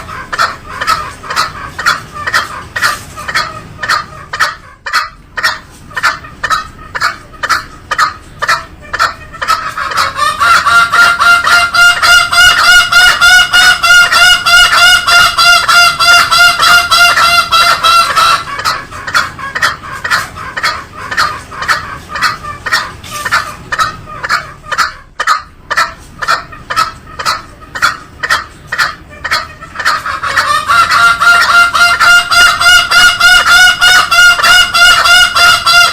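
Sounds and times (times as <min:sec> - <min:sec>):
junglefowl calling: 0:00.0 - 0:35.9.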